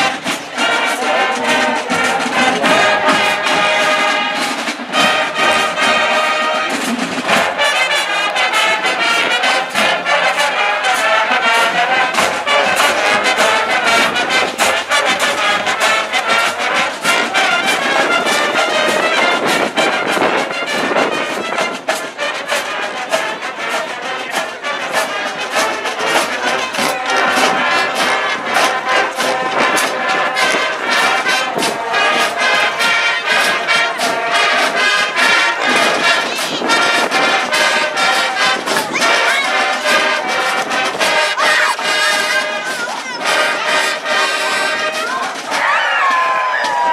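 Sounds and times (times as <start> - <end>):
marching band playing: 0.0 - 46.9.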